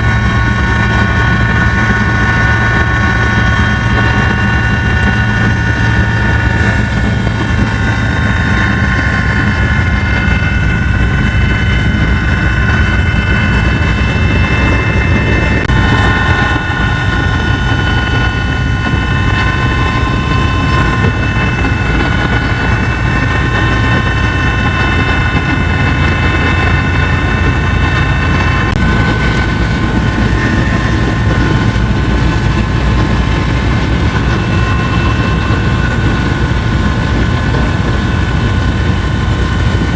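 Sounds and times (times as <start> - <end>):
helicopter engine and rotor: 0.0 - 39.9
high-pitched whining tones: 0.0 - 39.9.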